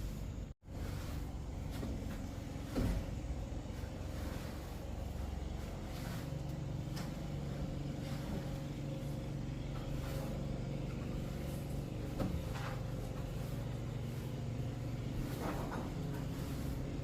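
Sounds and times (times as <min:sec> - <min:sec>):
motor humming steadily: 0:00.0 - 0:17.0.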